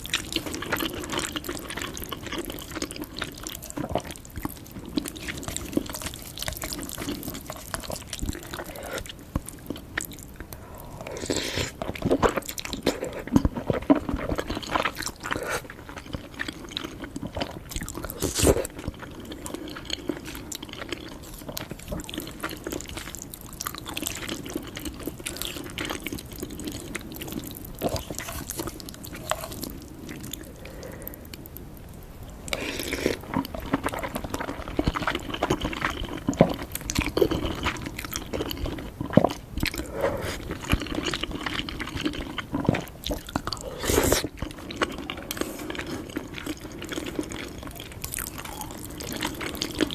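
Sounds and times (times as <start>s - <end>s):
person chewing noodles: 0.0s - 31.6s, 32.3s - 49.9s.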